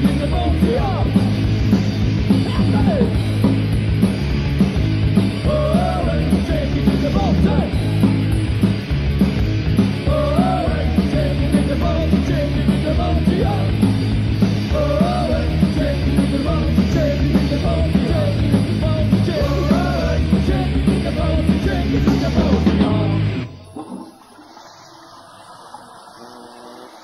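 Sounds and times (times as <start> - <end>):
punk rock band playing: 0.0 - 23.5.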